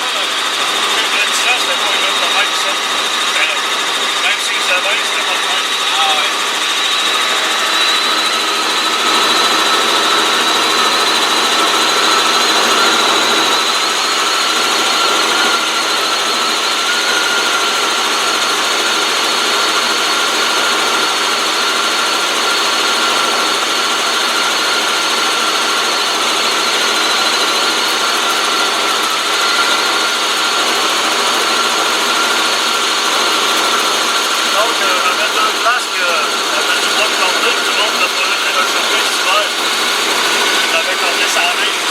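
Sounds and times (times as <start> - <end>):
helicopter turbine and rotor: 0.0 - 41.9.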